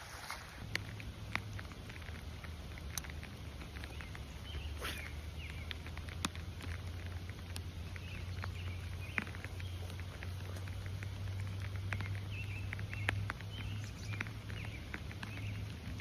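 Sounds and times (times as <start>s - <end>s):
rain falling: 0.0s - 16.0s
raindrops ticking near microphone: 0.0s - 16.0s.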